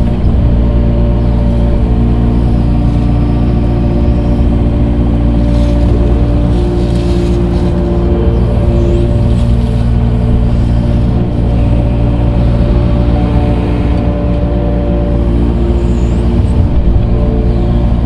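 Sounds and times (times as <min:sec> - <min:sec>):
diesel engine under load: 0:00.0 - 0:18.0
higher steady tone: 0:00.7 - 0:18.0.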